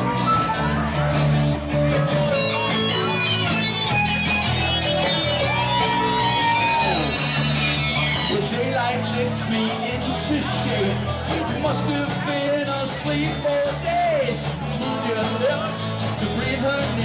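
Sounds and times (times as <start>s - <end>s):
bass line: 0.0s - 17.0s
rock band playing instrumental: 0.0s - 17.0s
strummed electric guitars: 0.0s - 17.0s.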